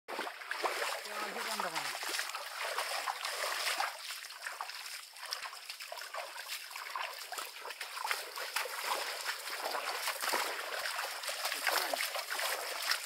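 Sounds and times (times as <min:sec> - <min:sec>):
footsteps splashing through water: 0:00.1 - 0:13.0
trickling water: 0:00.1 - 0:13.0.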